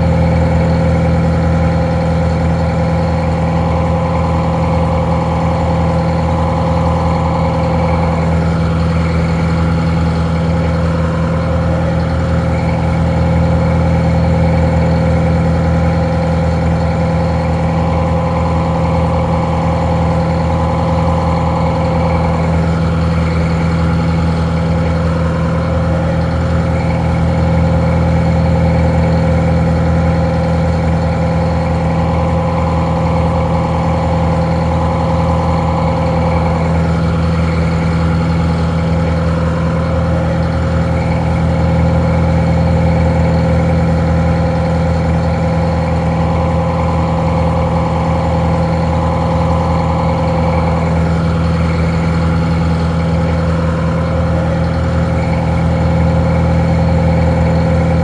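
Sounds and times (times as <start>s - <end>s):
muffled diesel engine idling: 0.0s - 58.0s.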